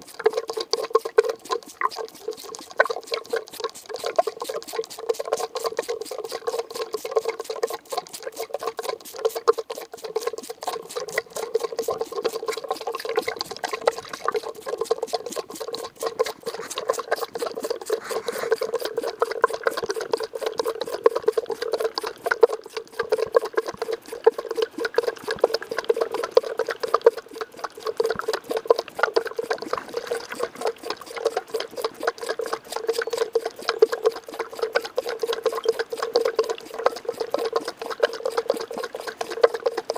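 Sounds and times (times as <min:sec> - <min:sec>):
goat kid sucking from bottle: 0:00.0 - 0:39.9
milk gurgling in bottle: 0:00.0 - 0:39.9.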